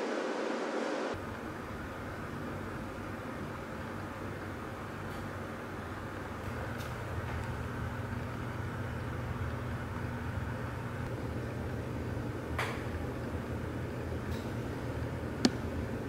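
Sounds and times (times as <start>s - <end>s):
machine hum with hiss: 0.0s - 16.0s.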